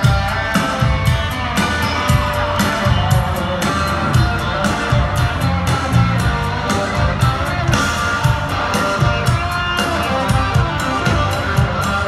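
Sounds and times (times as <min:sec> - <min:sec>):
electric guitar lead: 0:00.0 - 0:12.0
live country-rock band: 0:00.0 - 0:12.0
steady drum beat: 0:00.0 - 0:12.0.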